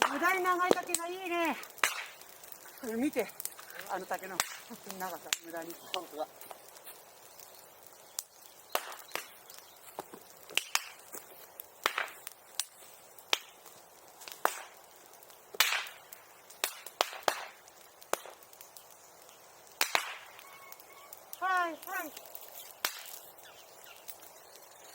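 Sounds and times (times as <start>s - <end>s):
bamboo popping in a bonfire: 0.0s - 24.9s.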